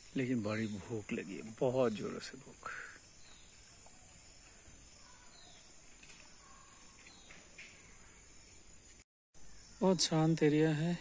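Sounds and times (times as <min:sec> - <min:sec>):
insects droning: 0:00.0 - 0:11.0
soft bird chirps: 0:00.0 - 0:11.0.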